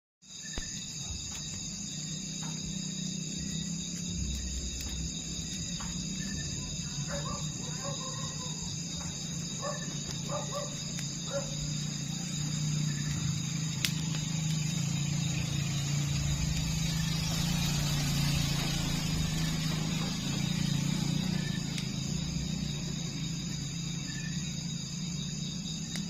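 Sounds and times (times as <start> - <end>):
fire crackles: 0.3 - 26.0
fire rumbling: 0.5 - 26.0.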